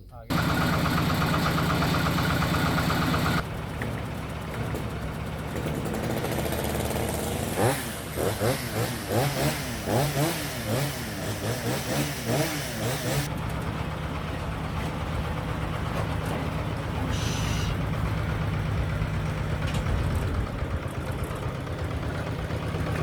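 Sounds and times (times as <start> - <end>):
power tiller engine running: 0.3 - 23.0.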